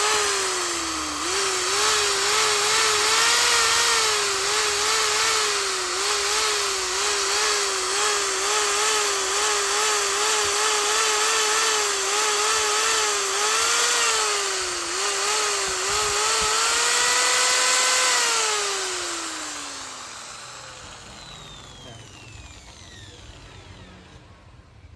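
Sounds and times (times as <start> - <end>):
electric drill motor whining: 0.0 - 24.9.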